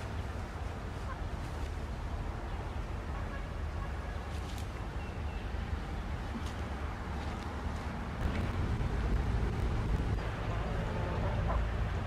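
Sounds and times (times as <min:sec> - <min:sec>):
rustling dry grass and leaves: 0:00.0 - 0:11.6
wind rumble on microphone: 0:00.0 - 0:12.0.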